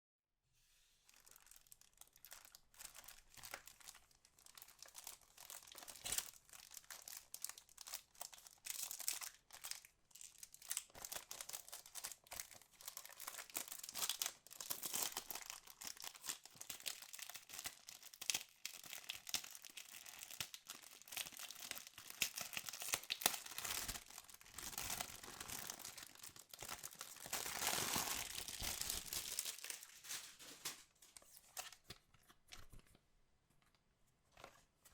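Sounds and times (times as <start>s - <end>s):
plastic wrapping crinkling and tearing: 1.0s - 33.0s.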